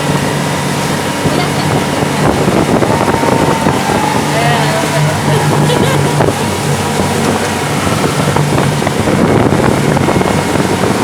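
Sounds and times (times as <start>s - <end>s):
motorboat engine running: 0.0s - 11.0s
wind noise on microphone: 0.0s - 11.0s.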